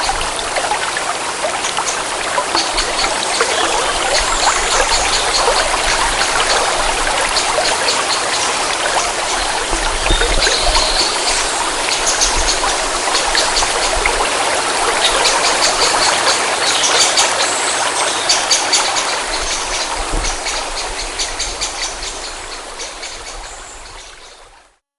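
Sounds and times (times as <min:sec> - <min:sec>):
forest stream flowing: 0:00.0 - 0:24.8.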